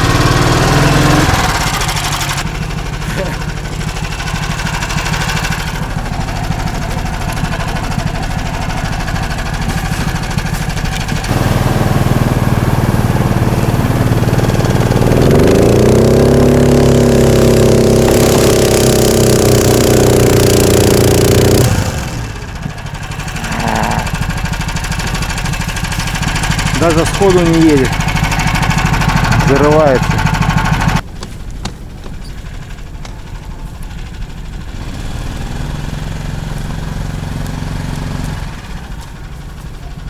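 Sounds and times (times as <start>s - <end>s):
snow tug engine revving: 0.0s - 31.0s, 32.4s - 40.0s.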